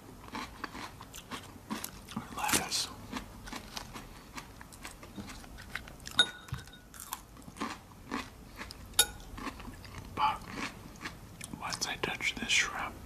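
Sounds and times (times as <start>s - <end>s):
person chewing crisp vegetables: 0.0s - 12.3s.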